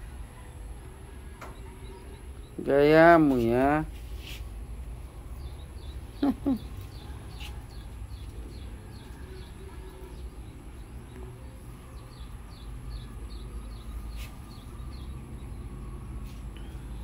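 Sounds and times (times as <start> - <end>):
low steady rumble: 0.0 - 17.0
bird chirping: 1.3 - 4.4, 5.3 - 17.0.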